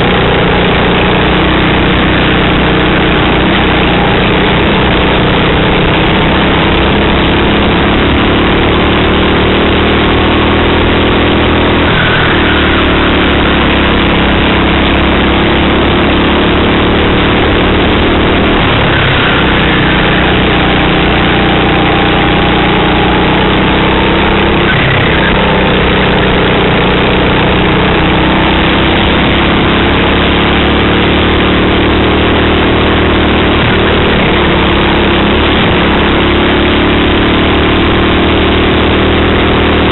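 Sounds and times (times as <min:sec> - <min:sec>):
heavy rush of noise: 0:00.0 - 0:39.9
racing kart engine revving: 0:00.0 - 0:39.9.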